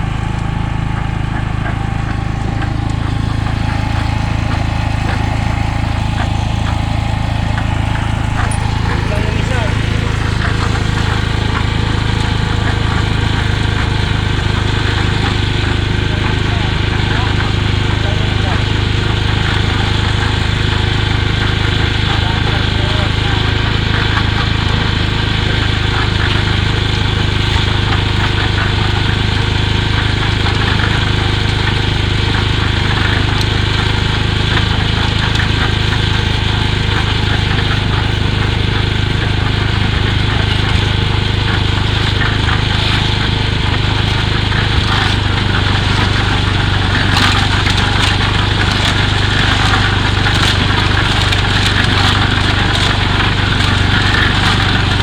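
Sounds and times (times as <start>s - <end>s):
clatter and clicks: 0.0s - 55.0s
concrete mixer engine humming: 0.0s - 55.0s.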